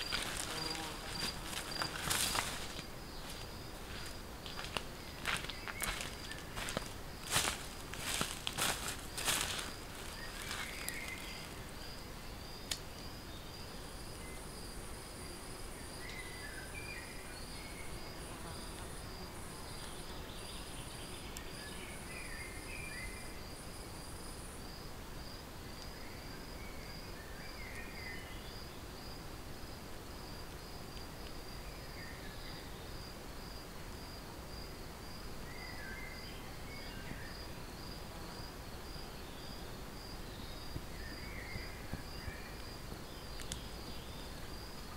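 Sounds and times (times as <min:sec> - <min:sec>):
high buzzing insect trill: 0:00.0 - 0:44.9
insect chirping in rapid pulse: 0:00.0 - 0:44.9.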